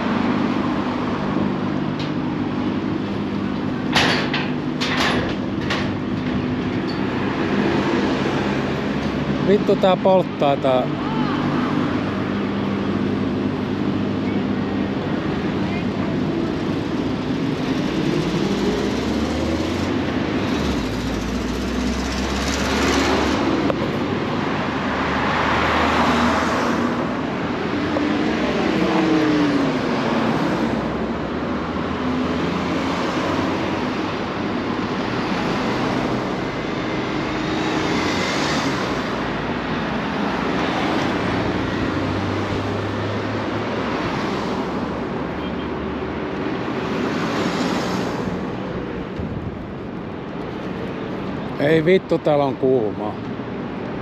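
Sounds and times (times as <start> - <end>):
cars passing by: 0.0 - 54.0.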